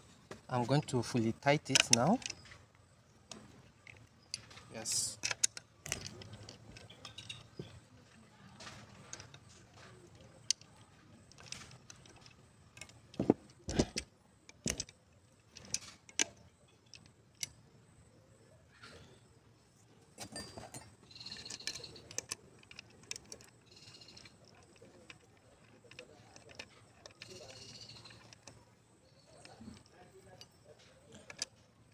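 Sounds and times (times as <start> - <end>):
hand tools clicking on metal: 1.6 - 2.6, 3.3 - 17.6, 20.2 - 31.9.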